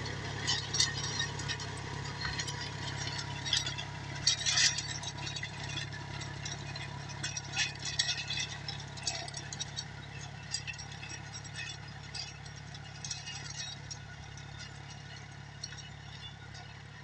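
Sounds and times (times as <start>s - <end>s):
implement rattling and clinking: 0.0s - 17.0s
tractor engine running: 0.0s - 17.0s.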